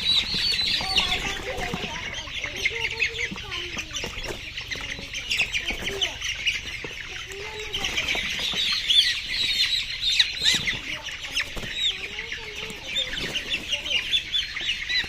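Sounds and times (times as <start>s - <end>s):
chickens chirping and squawking: 0.0s - 15.0s
chickens clucking: 0.0s - 15.0s.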